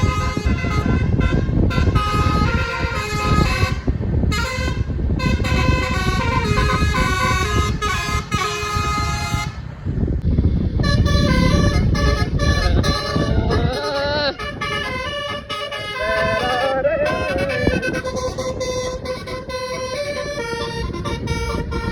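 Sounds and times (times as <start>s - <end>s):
multi-tone air horn melody: 0.0s - 9.7s, 10.7s - 21.9s
low rumble: 0.0s - 21.9s.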